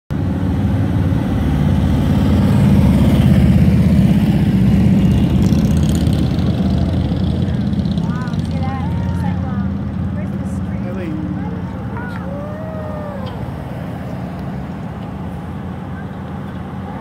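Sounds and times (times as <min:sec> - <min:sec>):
low engine rumble: 0:00.1 - 0:17.0.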